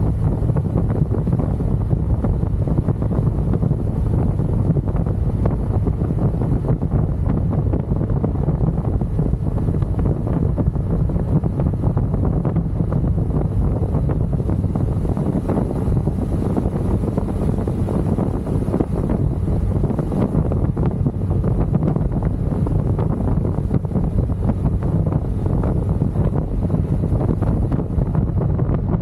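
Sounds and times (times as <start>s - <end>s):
motorcycle engine rumble: 0.0s - 29.0s
wind rushing over microphone: 0.0s - 29.0s.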